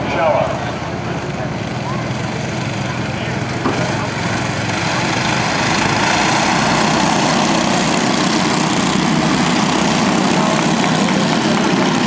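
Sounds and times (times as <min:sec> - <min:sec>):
kart engines droning: 0:00.0 - 0:12.0.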